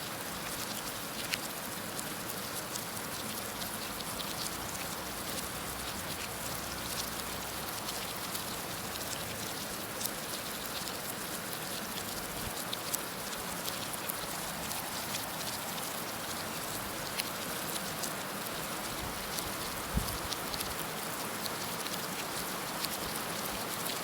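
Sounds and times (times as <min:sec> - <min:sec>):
raindrops ticking on a surface: 0:00.0 - 0:24.0.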